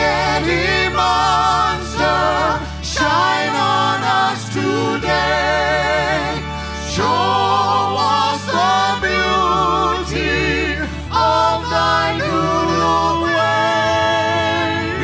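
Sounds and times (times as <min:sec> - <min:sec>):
people singing in harmony: 0:00.0 - 0:15.0
sustained keyboard chords: 0:00.0 - 0:15.0.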